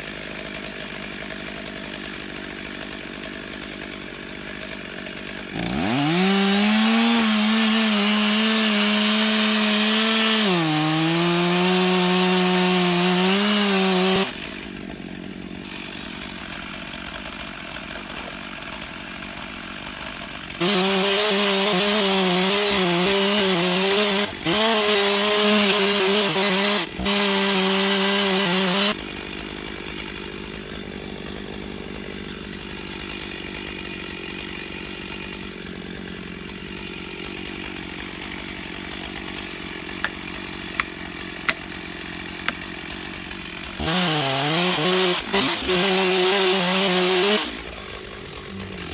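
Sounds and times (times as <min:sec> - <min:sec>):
chainsaw cutting log: 0:00.0 - 0:48.9.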